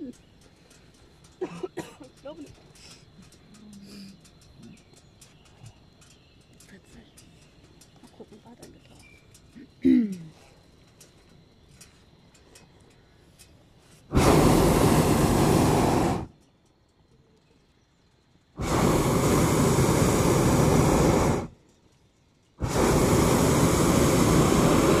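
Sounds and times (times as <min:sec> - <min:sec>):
propane burner blasts: 0:00.0 - 0:16.5, 0:17.7 - 0:25.0.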